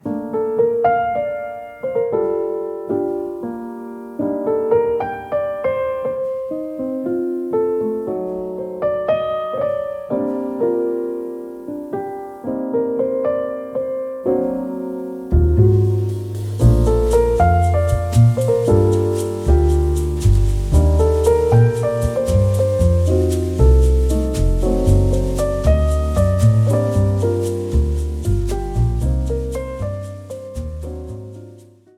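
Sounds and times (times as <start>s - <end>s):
gentle solo piano melody: 0.0s - 31.9s.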